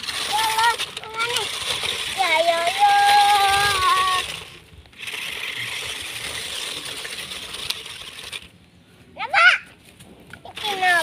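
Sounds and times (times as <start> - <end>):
rc trucks driving over gravel: 0.0 - 11.0.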